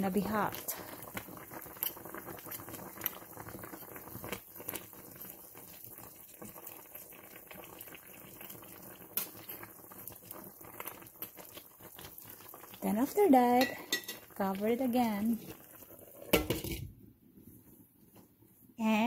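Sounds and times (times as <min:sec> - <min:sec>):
pot bubbling on stove: 0:00.0 - 0:17.3.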